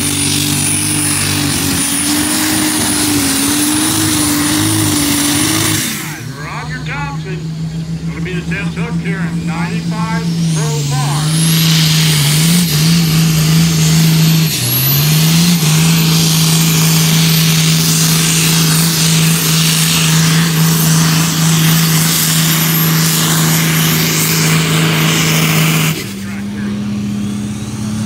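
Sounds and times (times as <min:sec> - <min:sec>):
tractor engine running under load: 0:00.0 - 0:28.0.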